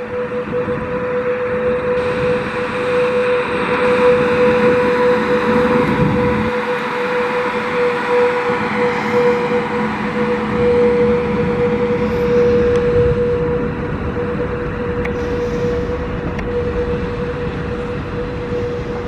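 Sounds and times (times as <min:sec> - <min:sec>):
electric train running at speed: 0:00.0 - 0:19.0.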